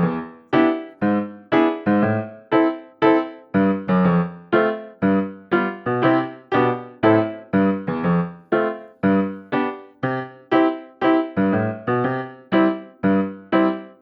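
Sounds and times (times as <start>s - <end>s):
piano notes and chords: 0.0s - 14.0s.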